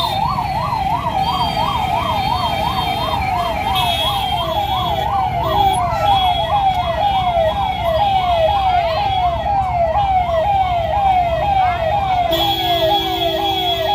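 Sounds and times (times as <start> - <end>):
ambulance siren: 0.0 - 13.9
low traffic rumble: 0.0 - 13.9.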